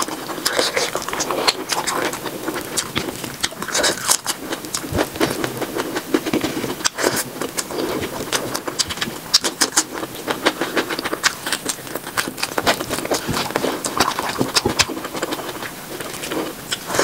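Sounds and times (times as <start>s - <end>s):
smacking and chewing: 0.0s - 17.0s.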